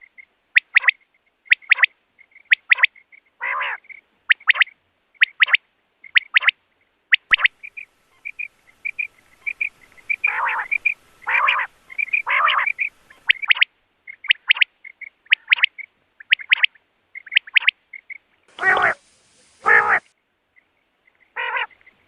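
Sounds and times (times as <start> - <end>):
quail calling: 0.0 - 6.5, 7.1 - 20.1, 21.3 - 22.0
soft chirps: 0.0 - 22.0.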